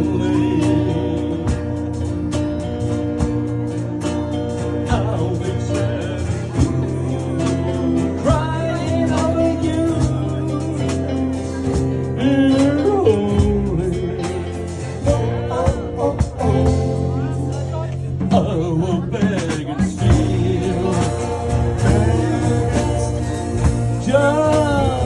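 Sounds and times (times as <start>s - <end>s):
person singing: 0.0s - 2.3s, 4.5s - 25.0s
rock and roll band playing: 0.0s - 25.0s.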